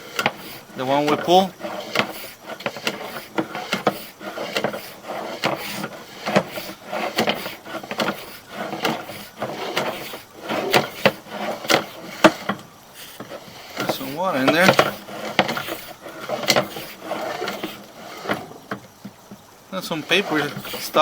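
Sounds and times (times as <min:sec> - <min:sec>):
camera knocking and scraping in pipe: 0:00.0 - 0:21.0.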